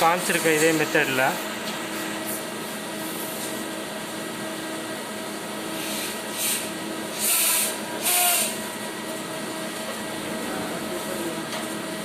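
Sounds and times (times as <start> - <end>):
lathe machine hum: 0.0 - 12.0.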